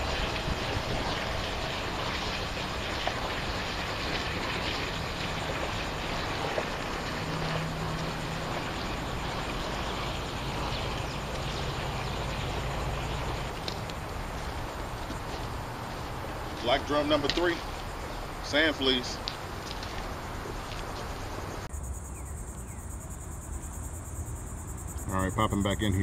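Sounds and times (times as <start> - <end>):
boat engine hum: 0.0 - 26.0.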